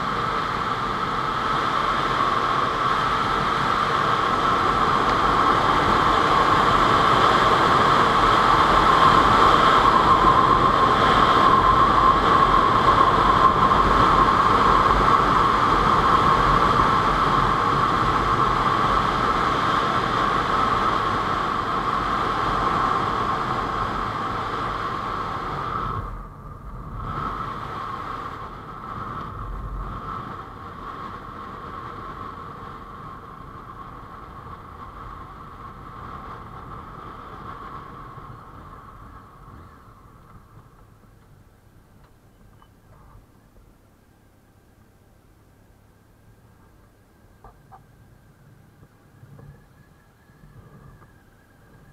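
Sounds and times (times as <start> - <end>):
wind rush: 0.0 - 41.9
motorcycle engine at road speed: 0.0 - 51.9.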